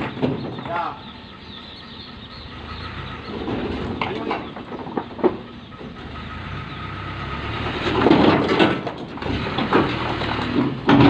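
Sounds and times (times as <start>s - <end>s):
diesel truck engine running: 0.0s - 11.0s
truck body clanking and rattling: 0.0s - 11.0s.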